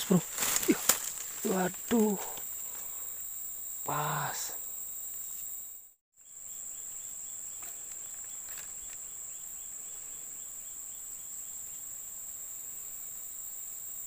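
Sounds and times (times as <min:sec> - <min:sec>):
faint insect chirping: 0:00.0 - 0:14.0
insect chorus drone: 0:00.0 - 0:14.0.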